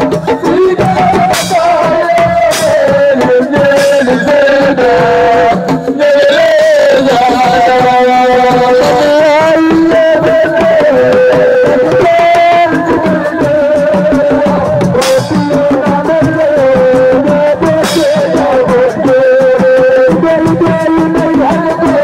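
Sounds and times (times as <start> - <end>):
fast hand-drumming: 0.0 - 22.0
person singing long notes: 0.3 - 22.0.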